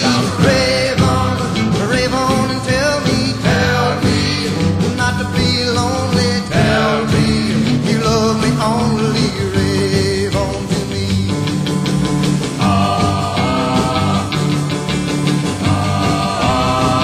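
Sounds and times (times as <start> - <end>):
rock and roll music: 0.0 - 17.0.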